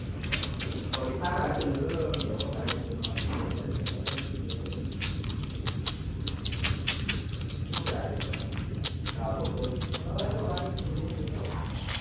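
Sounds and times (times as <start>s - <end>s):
squirrel crunching food: 0.0s - 12.0s.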